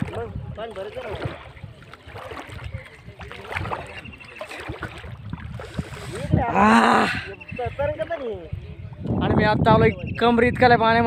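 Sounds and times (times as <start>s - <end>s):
water sloshing around legs: 0.0s - 9.1s
wind on microphone: 0.0s - 11.0s.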